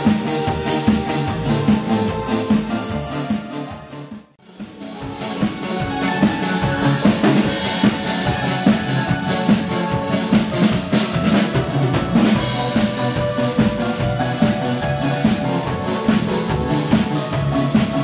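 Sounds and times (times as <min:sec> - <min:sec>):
bass guitar: 0:00.0 - 0:18.0
drum kit beat: 0:00.0 - 0:18.0
electric guitar: 0:00.0 - 0:18.0
keyboards: 0:00.0 - 0:18.0.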